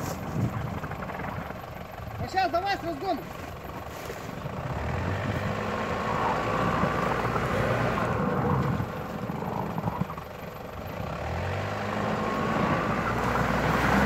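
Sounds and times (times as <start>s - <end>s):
car engine running under load: 0.0s - 14.0s.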